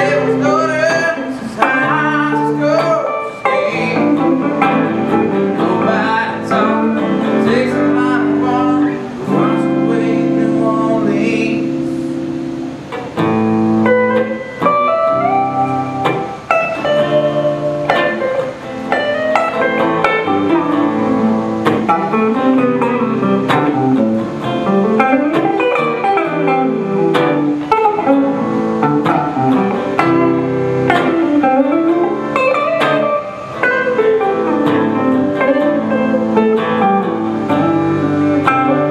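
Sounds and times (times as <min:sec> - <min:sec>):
electric guitars through amplifiers: 0:00.0 - 0:38.9.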